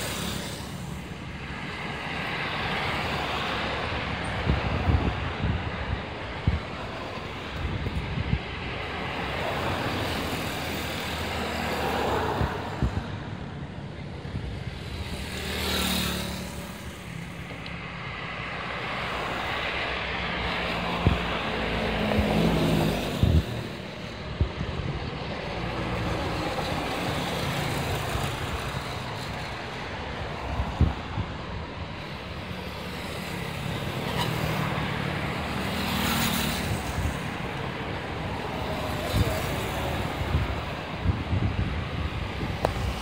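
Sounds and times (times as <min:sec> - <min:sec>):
steady traffic rumble: 0:00.0 - 0:43.0
vehicles passing by: 0:00.0 - 0:43.0.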